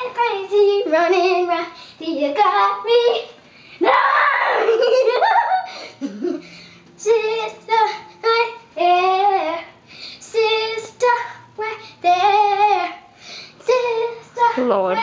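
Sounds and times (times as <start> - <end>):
girl singing: 0.0 - 4.1, 5.6 - 15.0.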